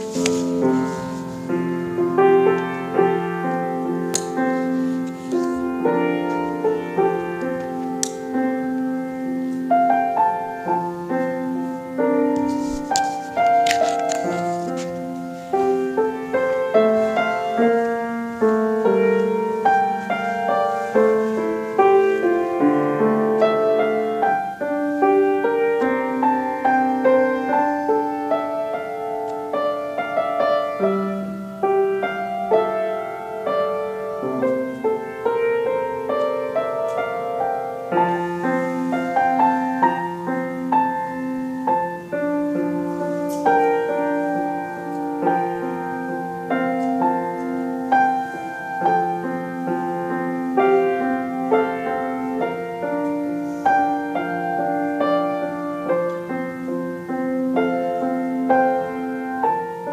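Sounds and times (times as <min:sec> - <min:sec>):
solo piano: 0:00.0 - 0:59.9.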